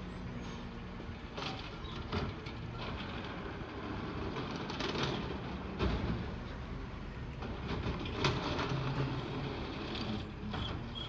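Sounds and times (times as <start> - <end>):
garbage truck engine rumble: 0.0 - 11.0.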